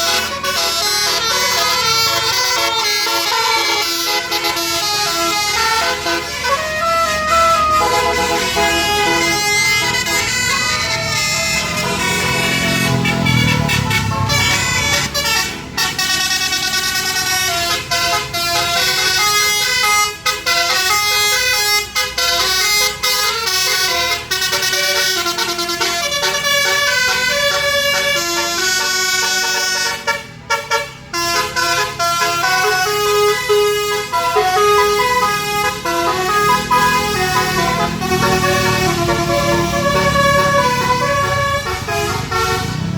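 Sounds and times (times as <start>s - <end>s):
multi-note bus horn melody: 0.0s - 42.9s.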